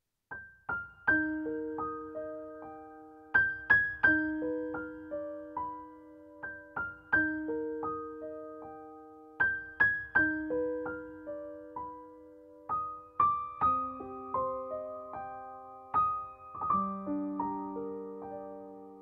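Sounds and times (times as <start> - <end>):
gentle piano melody: 0.3 - 19.0.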